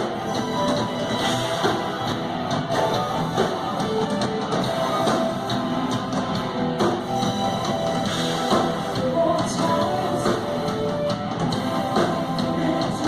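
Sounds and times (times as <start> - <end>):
drums: 0.0 - 13.0
electric guitar: 0.0 - 13.0
rock and roll band playing: 0.0 - 13.0.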